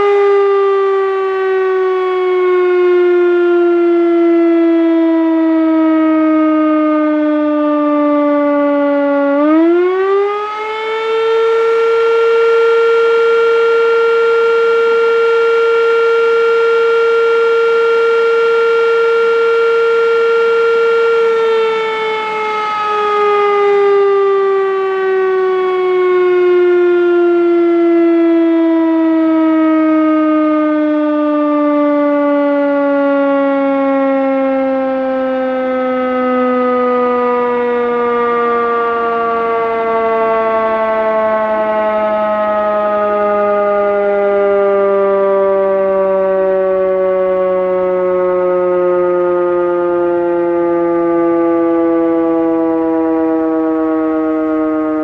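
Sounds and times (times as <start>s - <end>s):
air-raid siren wailing: 0.0s - 55.0s.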